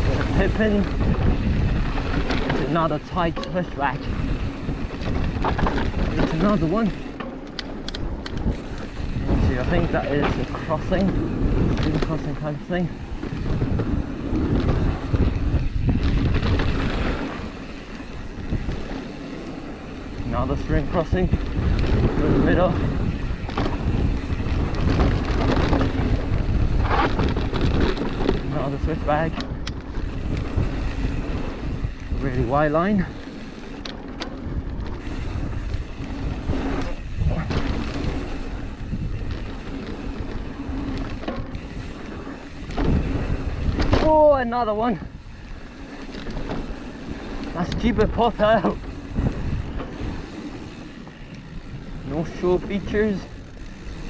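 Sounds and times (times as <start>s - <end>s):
mountain bike rumbling and rattling: 0.0s - 54.0s
wind buffeting microphone: 0.0s - 54.0s.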